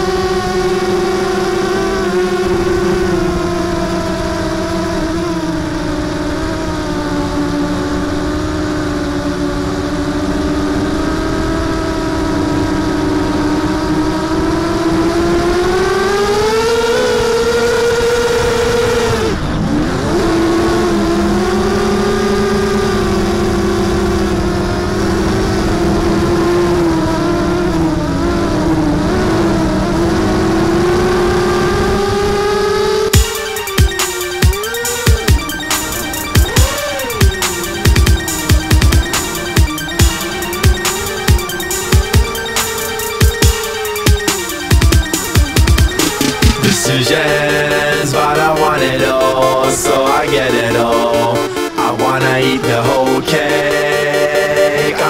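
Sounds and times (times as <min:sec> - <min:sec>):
drone motors whining: 0:00.0 - 0:22.5, 0:31.9 - 0:55.0.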